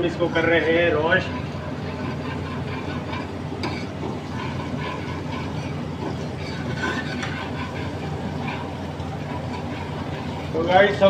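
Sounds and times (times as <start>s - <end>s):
kitchen equipment rumble: 0.0s - 11.0s
metal spoon scraping a pan: 0.0s - 11.0s.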